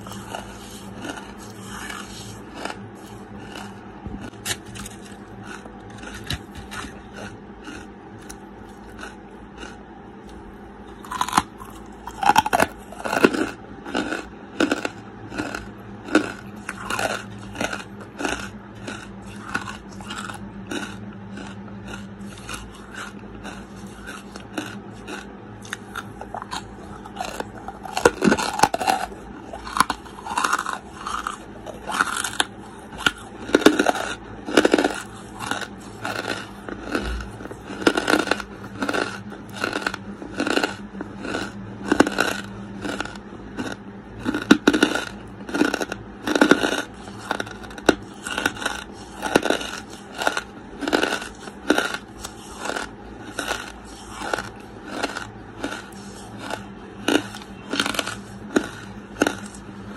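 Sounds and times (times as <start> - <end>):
crunchy chewing of charcoal: 0.0 - 59.9.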